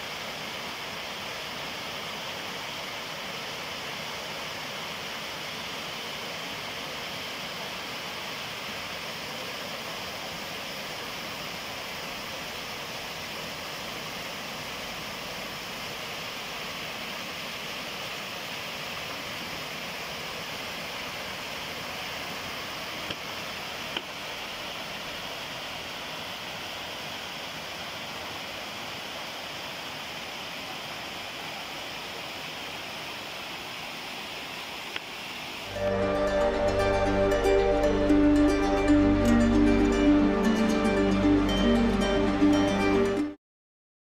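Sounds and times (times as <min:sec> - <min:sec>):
waterfall rushing: 0:00.0 - 0:43.4.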